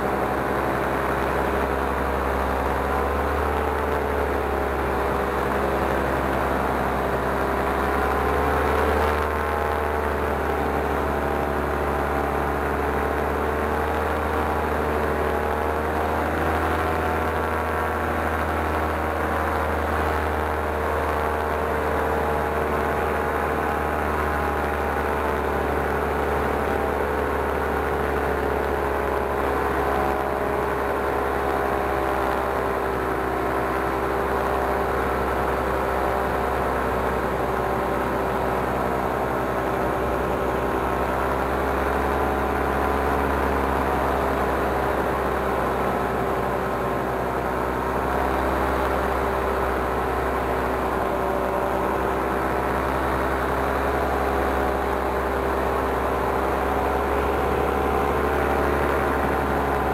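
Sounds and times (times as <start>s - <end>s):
paramotor engine and propeller drone: 0.0s - 59.9s.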